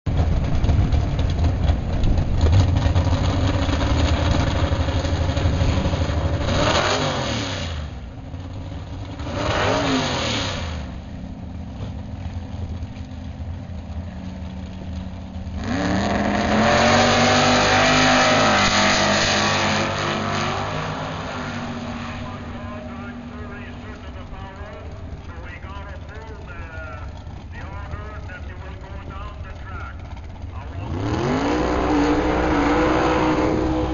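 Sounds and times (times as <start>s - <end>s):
cars launching and accelerating: 0.1s - 33.9s
drag racing engines revving: 0.1s - 33.9s.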